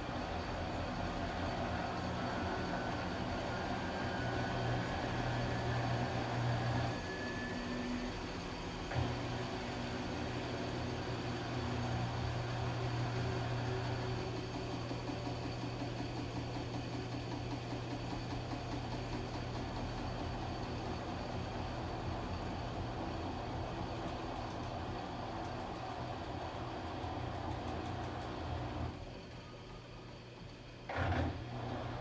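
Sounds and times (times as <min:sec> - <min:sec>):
washing machine running: 0:00.0 - 0:32.0.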